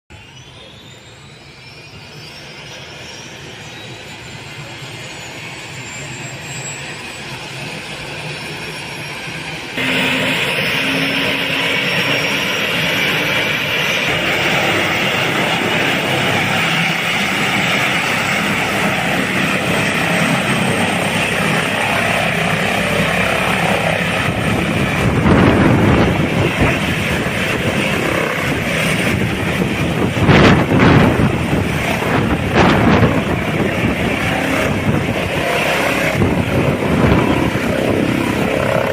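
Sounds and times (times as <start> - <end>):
turbine whine: 0.1 - 38.9
helicopter rotor and turbine rush: 0.2 - 38.9.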